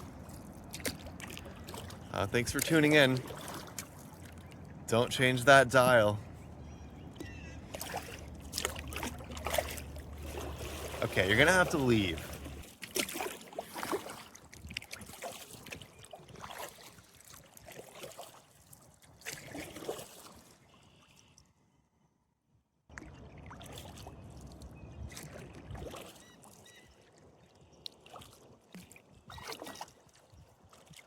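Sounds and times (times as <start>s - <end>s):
paddle strokes splashing in water: 0.0s - 4.8s, 7.1s - 21.0s, 23.0s - 31.0s.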